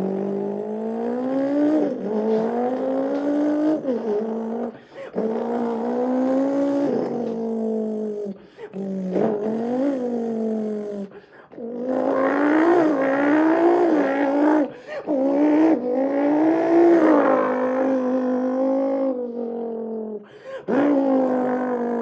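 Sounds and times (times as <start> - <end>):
man imitating engine with mouth: 0.0 - 22.0.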